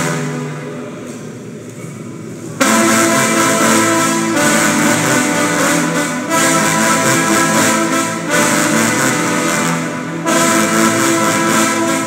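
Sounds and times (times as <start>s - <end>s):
trombones playing chords: 0.0s - 1.0s, 2.6s - 12.0s.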